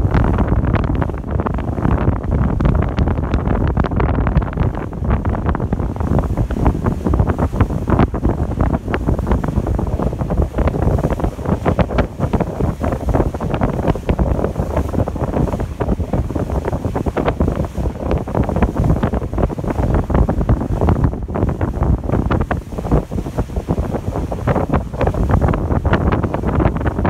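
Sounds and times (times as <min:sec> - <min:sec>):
ship and water rushing: 0:00.0 - 0:27.0
wind buffeting microphone: 0:00.0 - 0:27.0.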